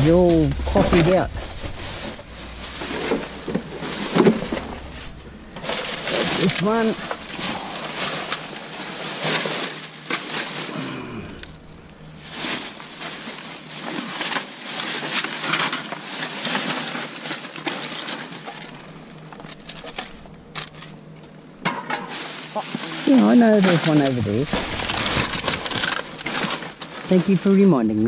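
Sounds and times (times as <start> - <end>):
plastic bags rustling: 0.0 - 27.9.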